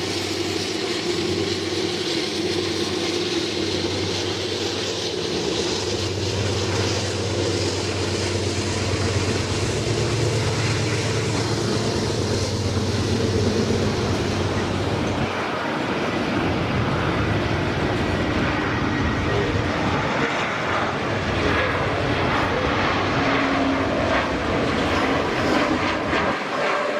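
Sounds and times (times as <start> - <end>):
diesel locomotive engine drone: 0.0 - 26.9
train on rails: 0.0 - 26.9.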